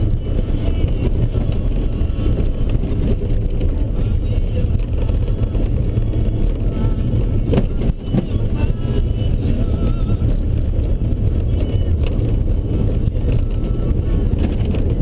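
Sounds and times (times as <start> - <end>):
vehicle rumbling on rough dirt road: 0.0 - 15.0.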